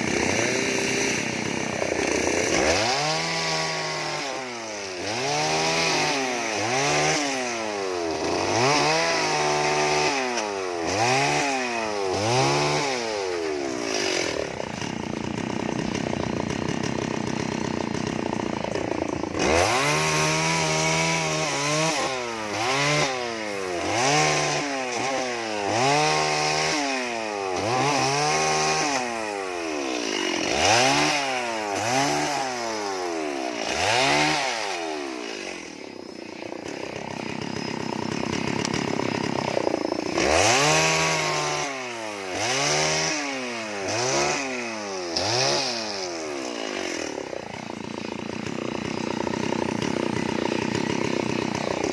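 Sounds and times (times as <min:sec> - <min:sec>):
chainsaw revving: 0:00.0 - 0:51.9.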